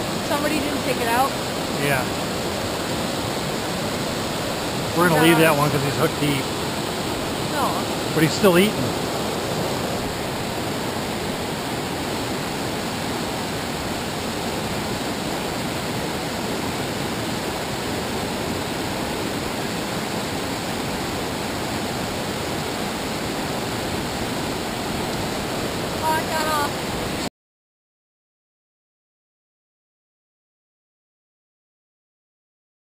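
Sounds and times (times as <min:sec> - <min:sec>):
river rapids rushing: 0:00.0 - 0:27.2.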